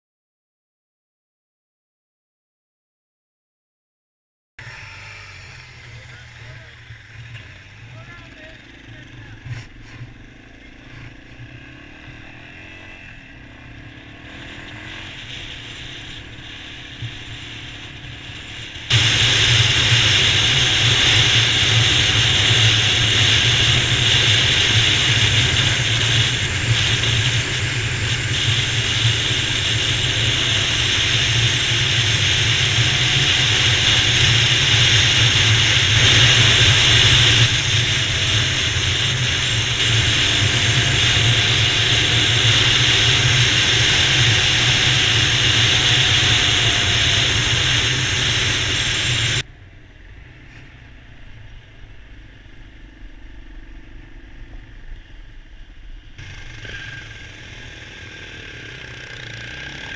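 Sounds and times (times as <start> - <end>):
motorcycle engine running: 4.6 - 59.9.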